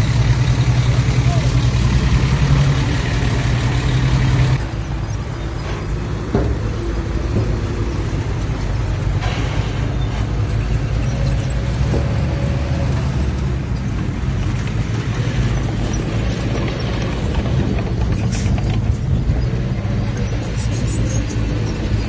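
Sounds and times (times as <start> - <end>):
heavy diesel machinery rumbling: 0.0 - 22.0.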